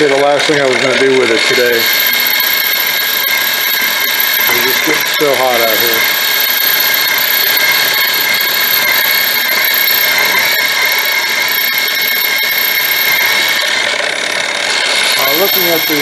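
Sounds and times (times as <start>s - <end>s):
drill bit cutting aluminum: 0.0s - 16.0s
mill motor whine: 0.0s - 16.0s.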